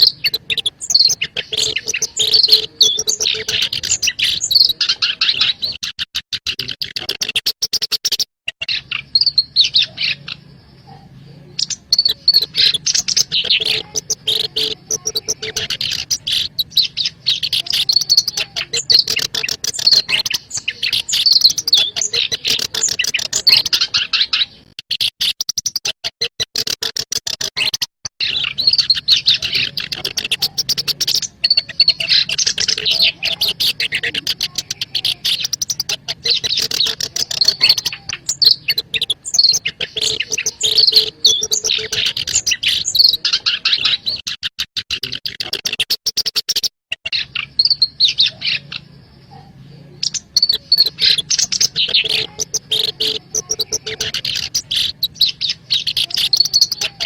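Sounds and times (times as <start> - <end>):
bird singing scratchy notes: 0.0 - 57.0.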